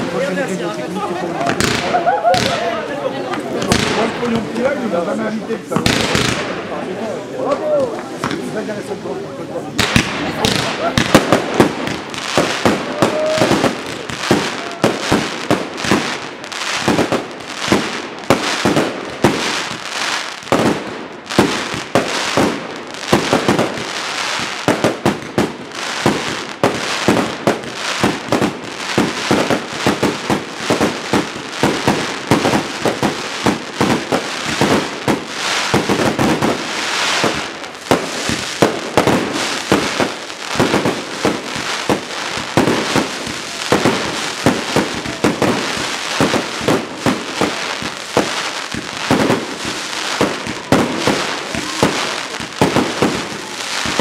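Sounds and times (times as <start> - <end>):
firework crackle: 0.0 - 8.9, 9.6 - 54.0.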